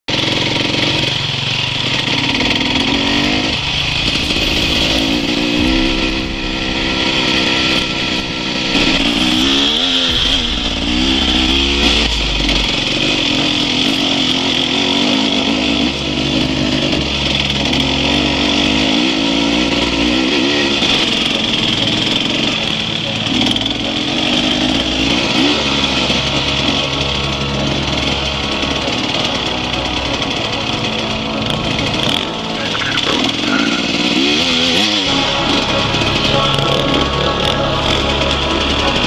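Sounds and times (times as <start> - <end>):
dirt bike engine revving: 0.1 - 39.0.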